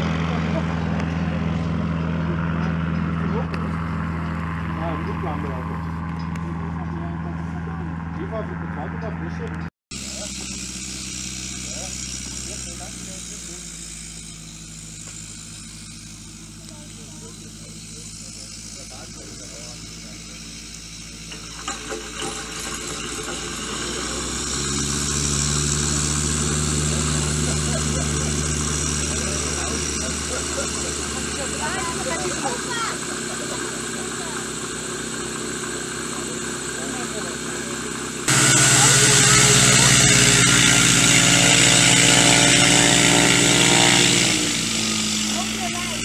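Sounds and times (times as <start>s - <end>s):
propeller aircraft engines running: 0.0s - 46.0s.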